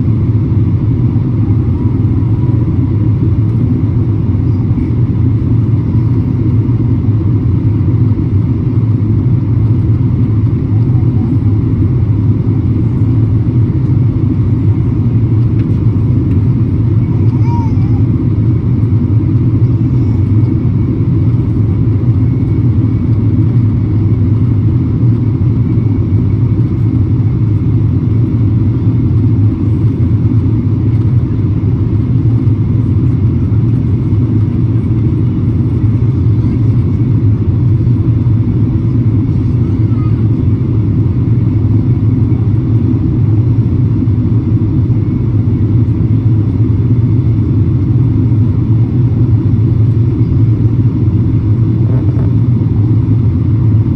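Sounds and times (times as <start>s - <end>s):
low roar in airliner cabin: 0.0s - 53.9s.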